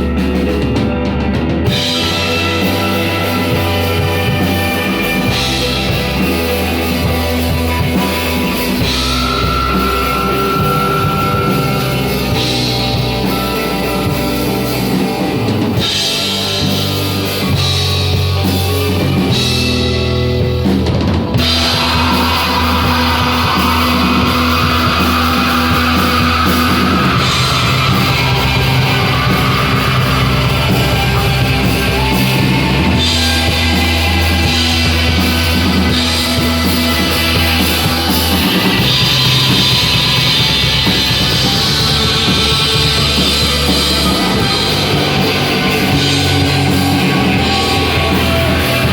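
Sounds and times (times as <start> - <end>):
rock band music: 0.0 - 48.9.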